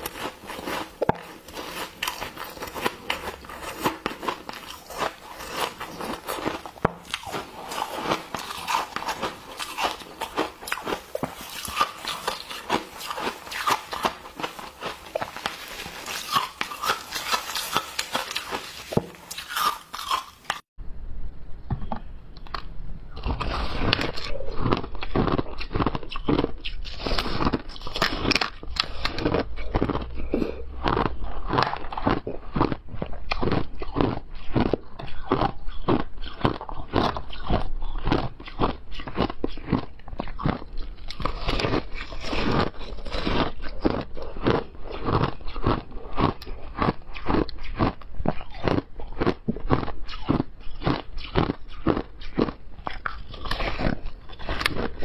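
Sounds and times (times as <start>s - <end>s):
ice crunching between teeth: 0.0s - 20.7s, 22.6s - 55.0s.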